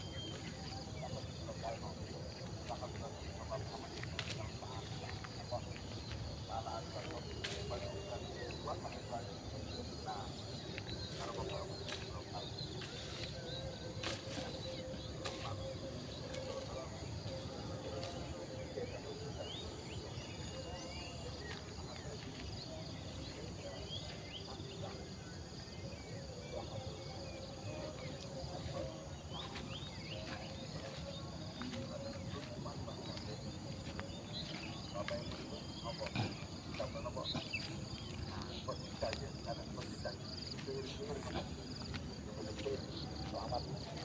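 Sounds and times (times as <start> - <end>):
footsteps on dry grass: 0.0 - 24.7, 27.2 - 44.0
birds calling: 0.0 - 44.0
insects calling: 0.0 - 44.0.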